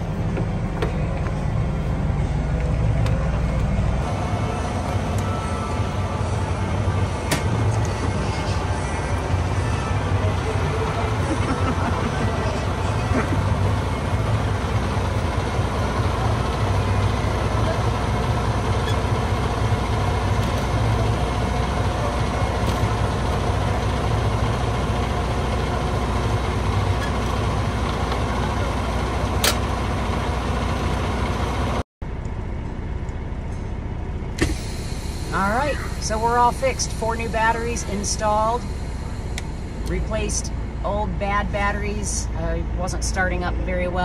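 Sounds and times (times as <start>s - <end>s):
truck diesel engine idling: 0.0s - 44.0s.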